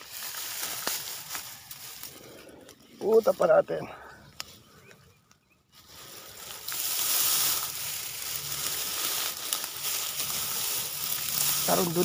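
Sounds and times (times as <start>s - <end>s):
dry grass rustling and crackling: 0.0s - 12.0s.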